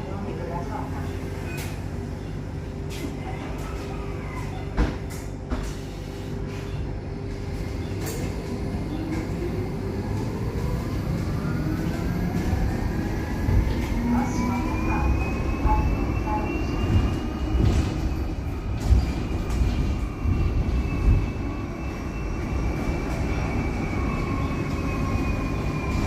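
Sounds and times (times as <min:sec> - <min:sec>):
public transport vehicle rumbling: 0:00.0 - 0:26.0.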